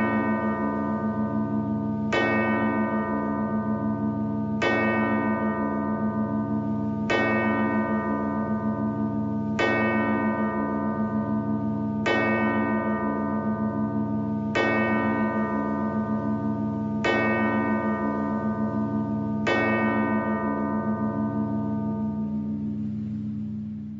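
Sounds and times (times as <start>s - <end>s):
large bell ringing: 0.0s - 23.9s
low hum: 0.0s - 23.9s.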